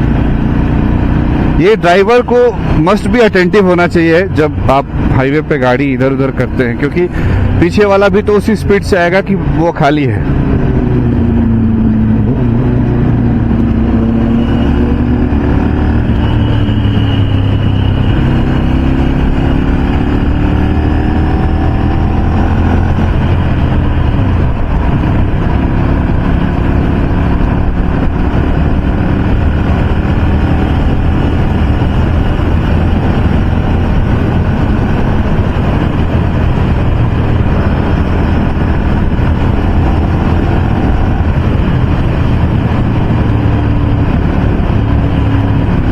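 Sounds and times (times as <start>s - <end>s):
motorcycle engine running: 0.0s - 45.9s
wind rush: 0.0s - 45.9s.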